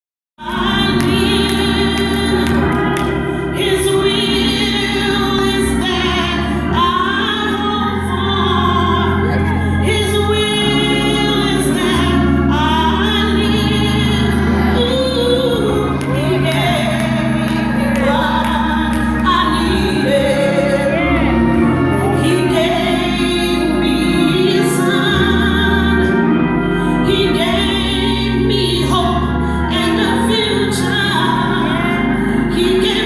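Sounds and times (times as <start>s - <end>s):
bass and keyboard chords: 0.4s - 33.0s
choir singing gospel: 0.4s - 33.0s.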